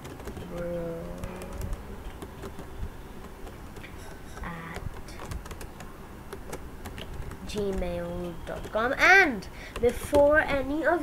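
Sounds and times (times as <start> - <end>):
computer keyboard typing: 0.0 - 11.0.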